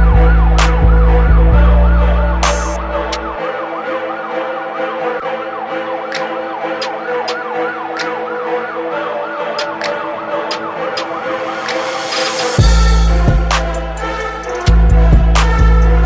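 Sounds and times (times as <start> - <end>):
siren yelping: 0.0 - 16.0.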